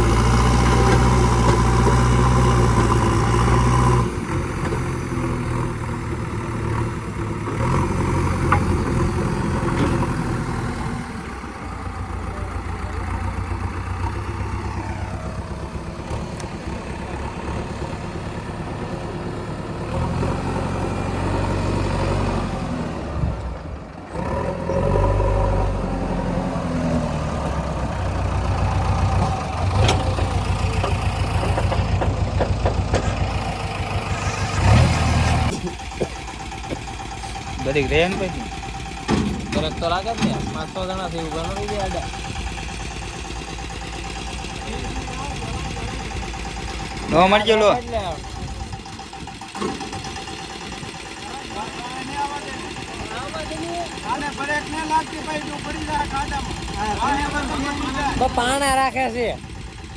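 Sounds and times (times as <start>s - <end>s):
heavy diesel engine working: 0.0s - 59.9s.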